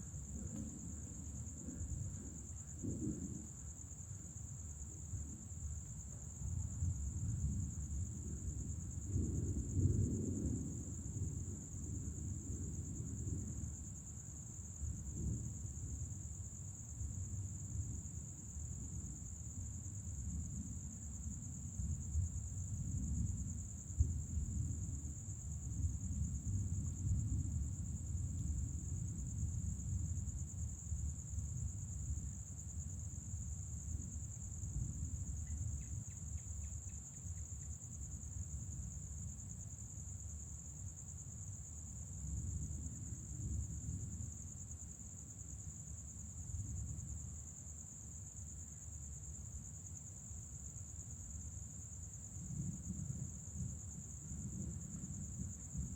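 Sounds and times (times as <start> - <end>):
night insects trilling: 0.0 - 55.9.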